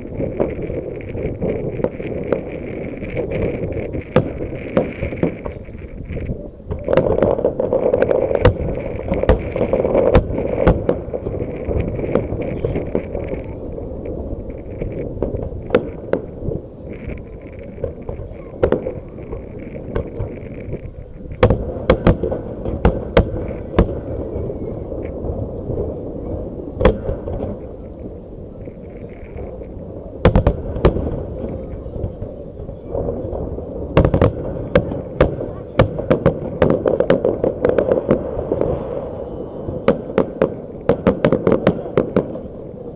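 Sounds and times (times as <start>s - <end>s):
background rumble: 0.0s - 42.9s
firework shells bursting: 0.0s - 42.9s.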